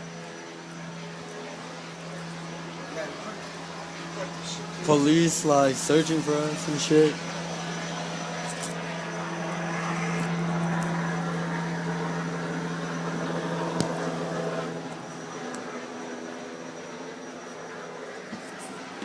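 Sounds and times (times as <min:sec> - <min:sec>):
aircraft engine drone overhead: 0:00.0 - 0:19.0.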